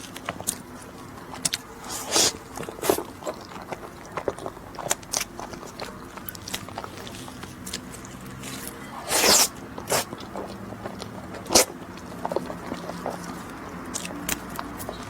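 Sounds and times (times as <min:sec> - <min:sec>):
biting and chewing: 0:00.0 - 0:15.0.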